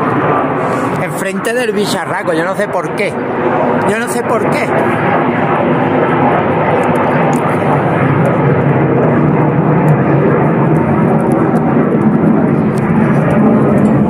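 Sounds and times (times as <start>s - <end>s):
fighter jets passing overhead: 0.0s - 14.0s.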